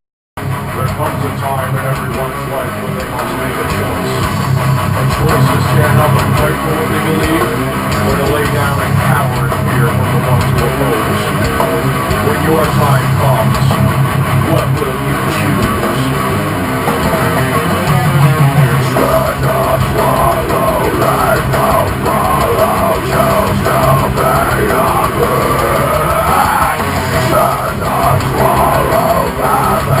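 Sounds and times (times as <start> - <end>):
bending melody line: 0.4 - 30.0
distorted electric guitars: 0.4 - 30.0
drum kit: 0.4 - 30.0.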